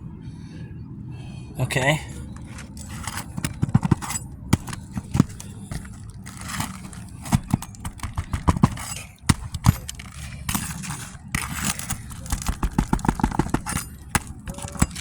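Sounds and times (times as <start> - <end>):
hand tools knocking on roof shingles: 2.4 - 15.0.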